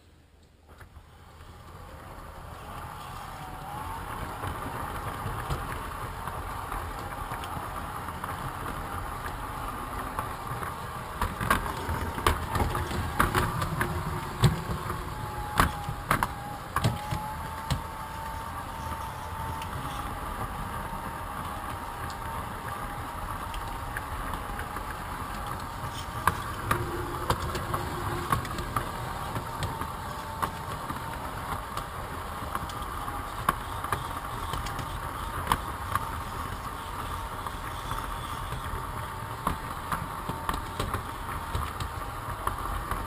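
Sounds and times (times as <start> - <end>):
wheels clicking on track: 0.0 - 43.0
model train motor hum: 1.0 - 43.0.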